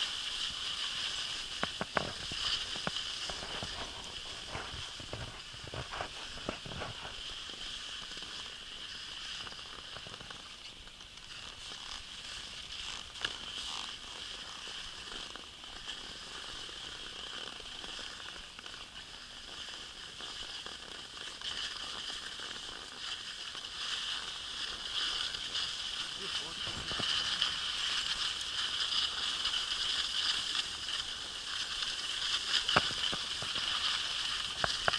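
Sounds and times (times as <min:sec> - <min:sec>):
skis sliding over snow: 0:00.0 - 0:34.9.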